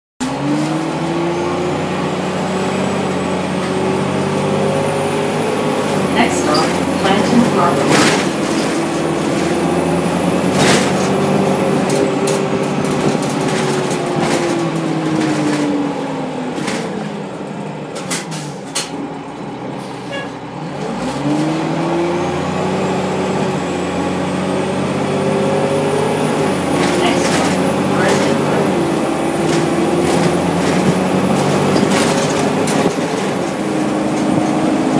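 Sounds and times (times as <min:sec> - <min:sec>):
bus body rattles and clicks: 0:00.2 - 0:34.9
bus diesel engine: 0:00.2 - 0:34.9.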